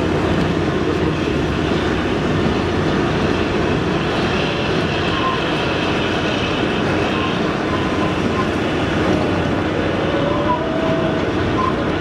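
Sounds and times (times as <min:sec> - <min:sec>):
train wheels running on track: 0:00.0 - 0:12.0.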